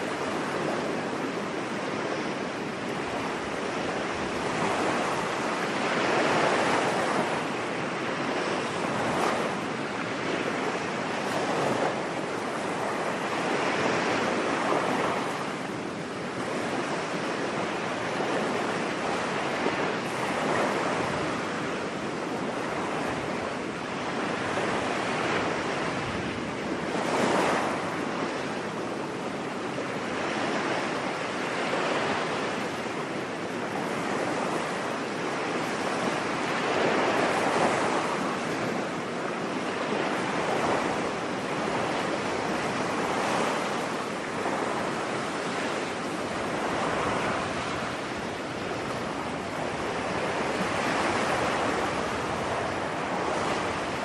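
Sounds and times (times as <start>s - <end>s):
ocean surf on a beach: 0.0s - 54.0s.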